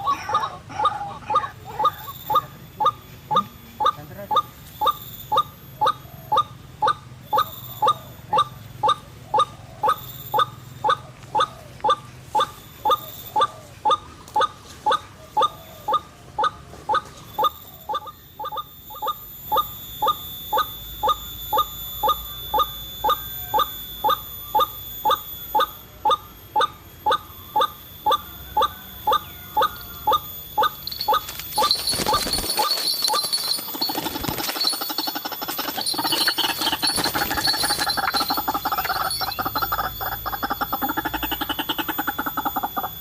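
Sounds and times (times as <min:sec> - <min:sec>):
waterhen calls: 0:00.0 - 0:21.7, 0:26.6 - 0:43.0.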